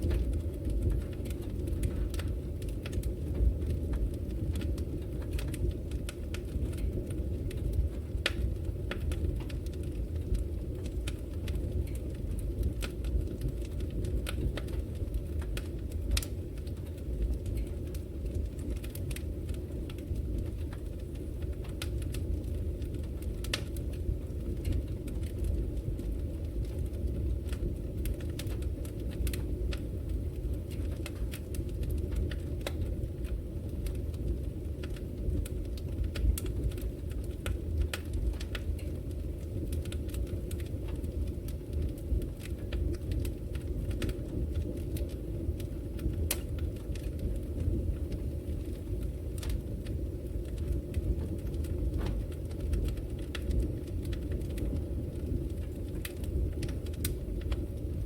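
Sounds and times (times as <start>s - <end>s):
logs crackling and popping: 0.0s - 58.0s
rumble of flames: 0.0s - 58.0s.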